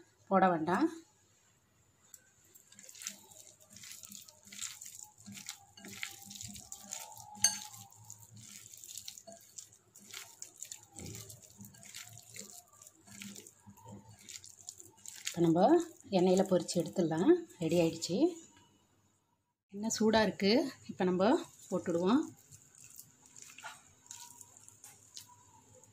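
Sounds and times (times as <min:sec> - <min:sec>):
wet squelches of cauliflower: 0:02.0 - 0:18.3, 0:21.2 - 0:25.9.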